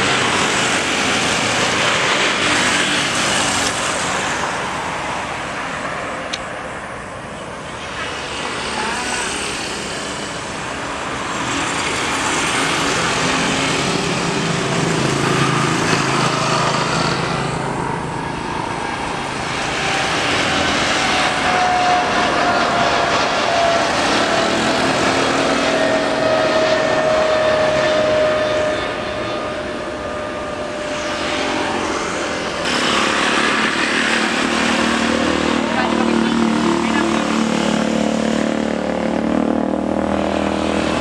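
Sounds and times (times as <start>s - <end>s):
jet airliner engines roaring: 0.0s - 41.0s.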